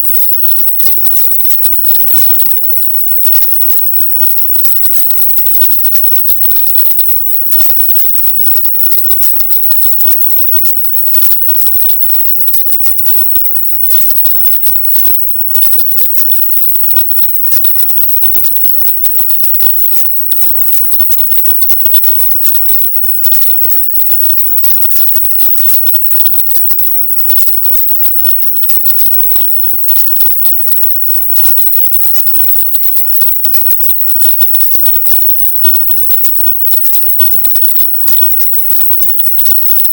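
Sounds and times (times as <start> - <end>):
high-pitched hiss: 0.0 - 39.9.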